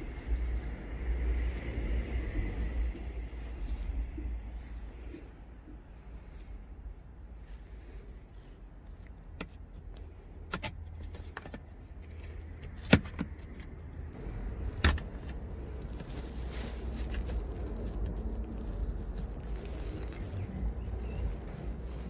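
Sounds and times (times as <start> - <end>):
low handling rumble: 0.0 - 11.1, 13.3 - 22.0.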